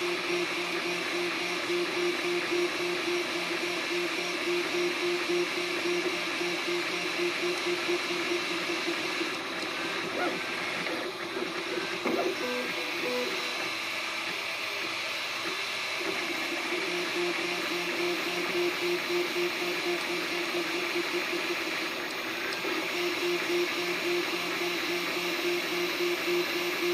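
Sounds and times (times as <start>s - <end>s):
stepper motors humming: 0.0s - 26.9s.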